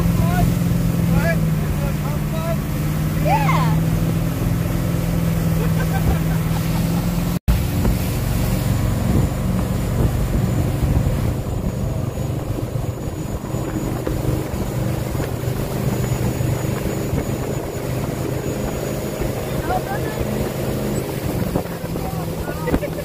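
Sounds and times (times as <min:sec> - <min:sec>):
motorboat engine running: 0:00.0 - 0:23.0
water rushing in wake: 0:00.0 - 0:23.0.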